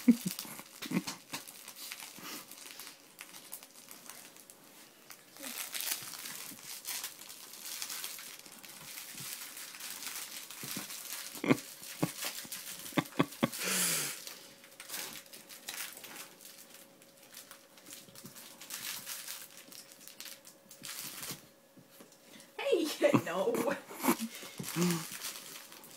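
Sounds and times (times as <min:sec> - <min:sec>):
plush toy rustling and crinkling: 0:00.0 - 0:23.2, 0:24.0 - 0:25.9.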